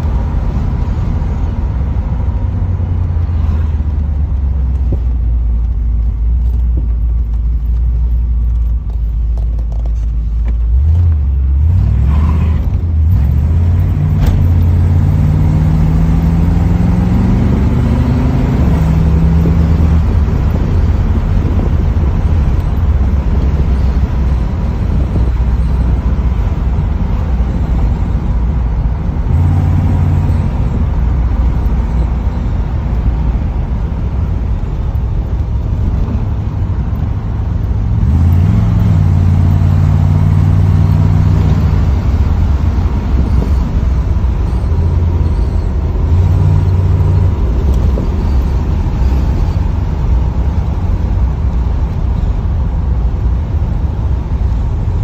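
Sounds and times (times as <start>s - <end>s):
car engine accelerating: 0.0s - 55.0s
road noise inside car: 0.0s - 55.0s.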